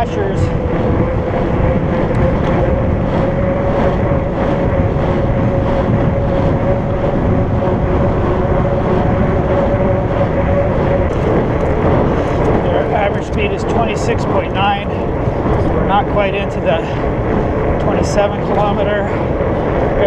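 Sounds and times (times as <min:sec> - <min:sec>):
bike tyres humming on pavement: 0:00.0 - 0:20.0
wind rumbling on microphone: 0:00.0 - 0:20.0.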